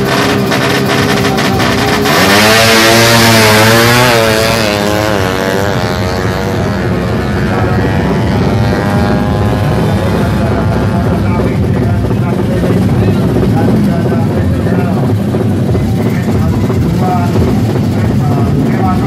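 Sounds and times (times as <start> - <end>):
motorcycle engines accelerating: 0.0 - 19.0.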